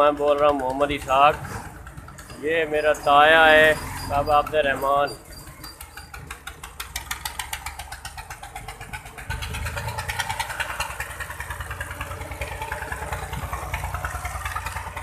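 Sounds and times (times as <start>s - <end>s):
diesel tractor engine clatter: 0.0s - 15.0s.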